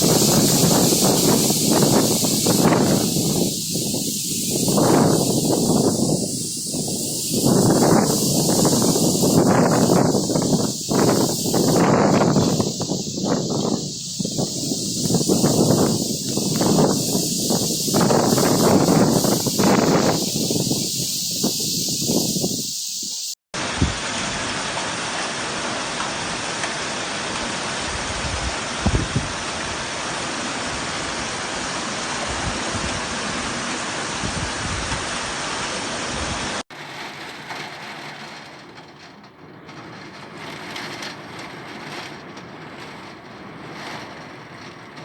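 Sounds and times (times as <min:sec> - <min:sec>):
heavy rain pouring: 0:00.0 - 0:22.6, 0:23.6 - 0:38.6.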